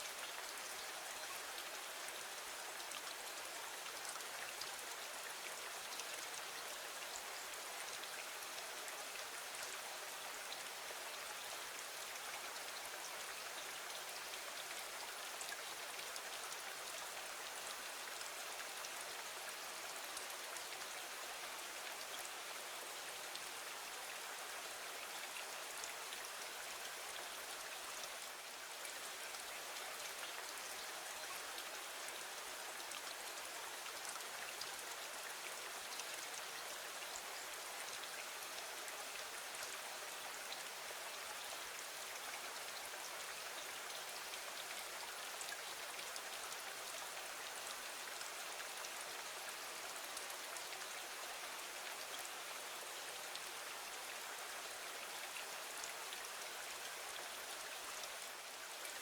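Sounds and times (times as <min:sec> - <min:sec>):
rain hissing against a window: 0:00.0 - 0:59.0.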